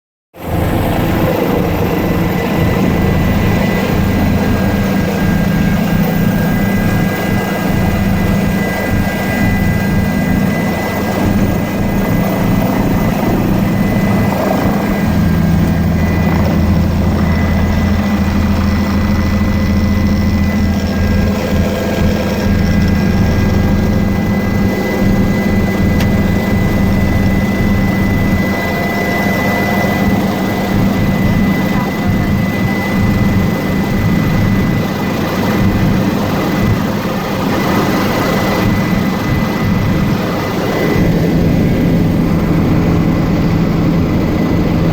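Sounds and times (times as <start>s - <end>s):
helicopter rotor and engine drone: 0.4s - 44.9s
high steady whine: 0.4s - 44.9s.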